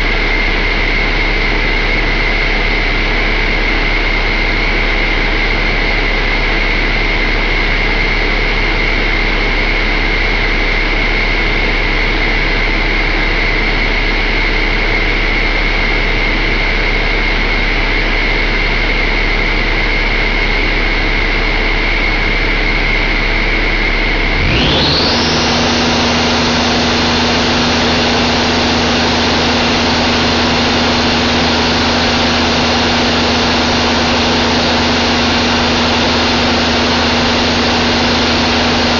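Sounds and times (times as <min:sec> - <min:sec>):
diesel engine whining: 0:00.0 - 0:38.9.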